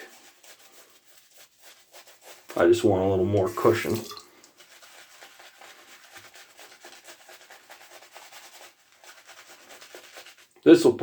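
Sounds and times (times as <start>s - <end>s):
shaving brush rubbing on soap: 0.0s - 11.0s.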